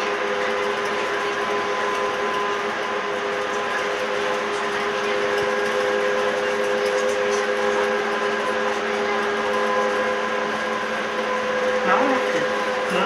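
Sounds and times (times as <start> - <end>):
electric drive whine: 0.0 - 13.0.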